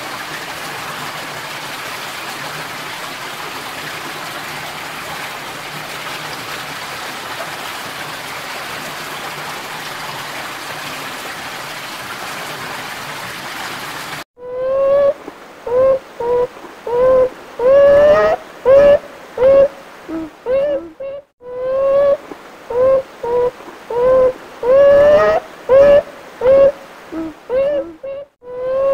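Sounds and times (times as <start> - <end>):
rushing water noise: 0.0 - 28.9.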